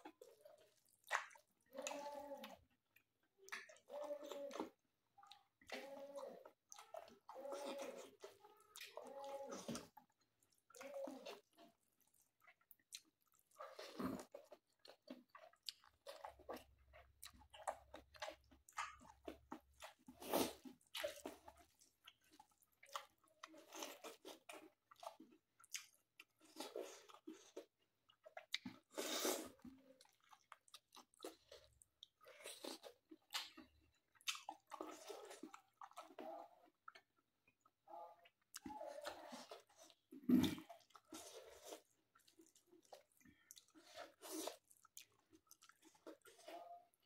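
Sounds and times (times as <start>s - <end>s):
person chewing and crunching food: 0.0s - 47.0s.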